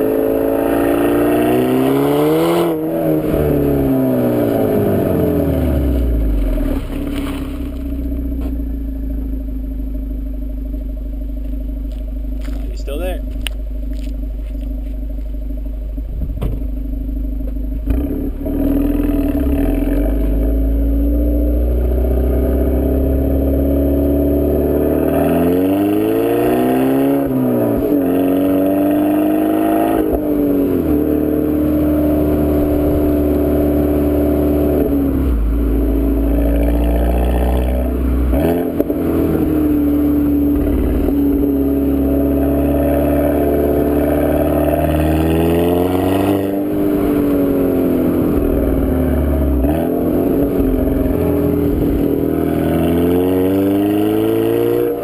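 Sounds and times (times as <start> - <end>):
car engine exhaust drone: 0.0 - 55.0.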